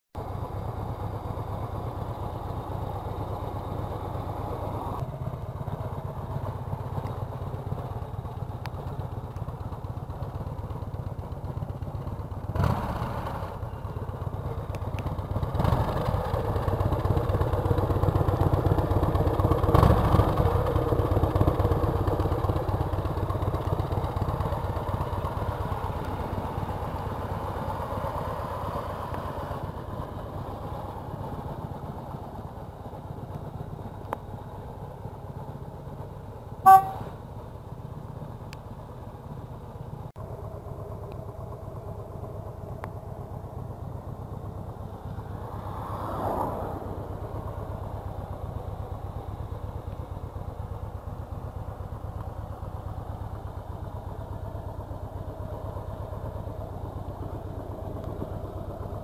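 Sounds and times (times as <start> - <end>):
motorcycle engine idling: 0.2 - 45.8, 46.8 - 59.0.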